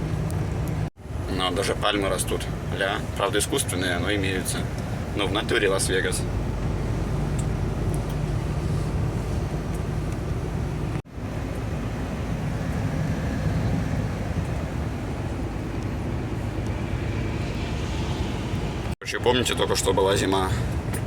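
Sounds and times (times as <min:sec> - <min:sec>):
road noise hiss: 0:00.0 - 0:21.0
truck engine drone: 0:00.0 - 0:21.0.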